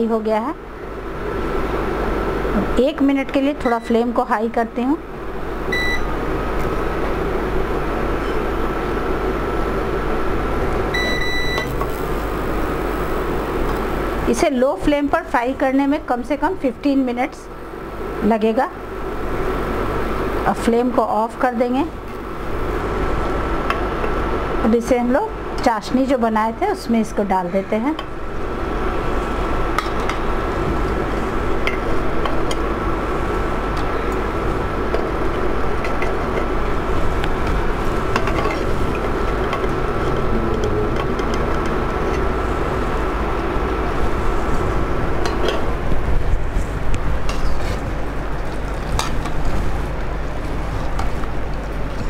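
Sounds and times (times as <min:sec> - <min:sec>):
steady hum with high whine: 0:00.0 - 0:52.0.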